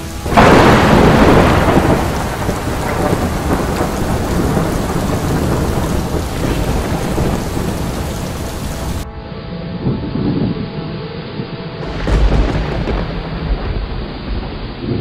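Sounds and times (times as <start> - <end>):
steady rain: 0.0 - 9.0, 9.9 - 15.0
rolling thunder rumble: 0.0 - 9.1, 9.7 - 15.0.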